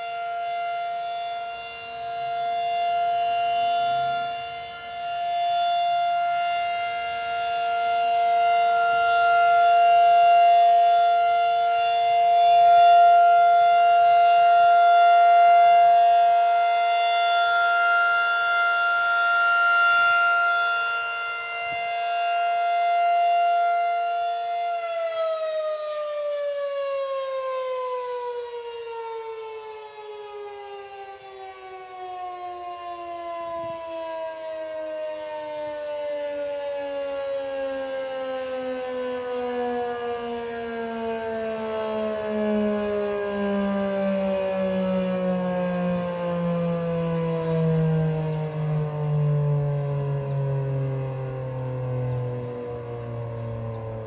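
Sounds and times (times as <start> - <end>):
warning siren two-note tone: 0.0 - 54.0.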